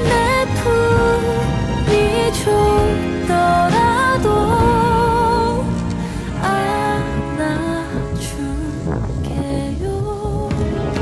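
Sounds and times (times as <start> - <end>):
slow melody of held notes: 0.0 - 11.0
steady low accompaniment: 0.0 - 11.0.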